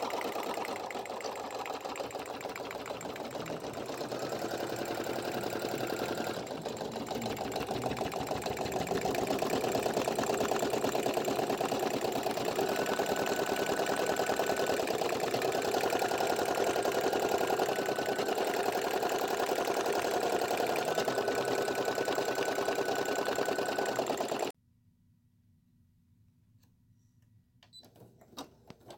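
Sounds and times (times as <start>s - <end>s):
embroidery machine stitching: 0.0s - 24.5s.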